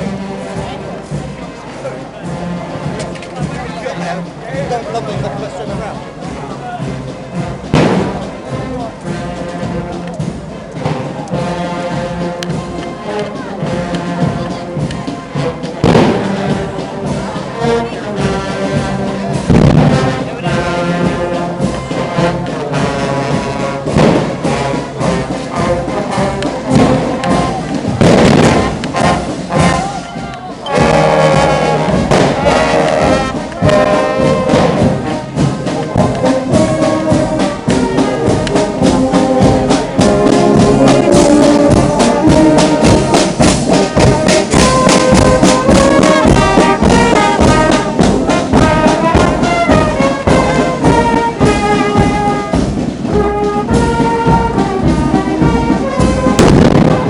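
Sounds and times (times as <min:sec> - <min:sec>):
brass marching band playing: 0:00.0 - 0:57.0.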